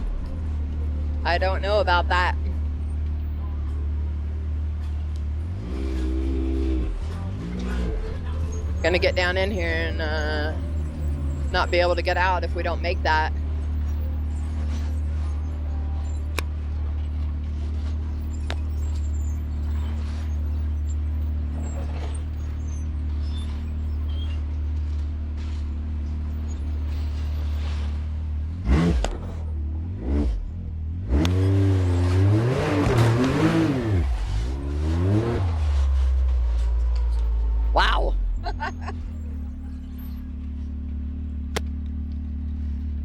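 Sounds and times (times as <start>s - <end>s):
off-road vehicle engine revving: 0.0s - 43.0s.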